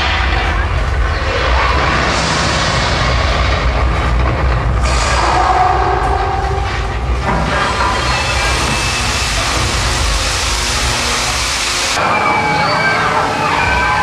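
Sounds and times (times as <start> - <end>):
train car rumble and rattle: 0.0 - 14.0.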